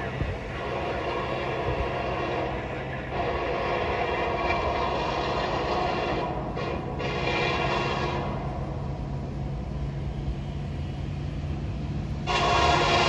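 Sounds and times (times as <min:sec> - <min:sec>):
train rumbling by: 0:00.0 - 0:13.0.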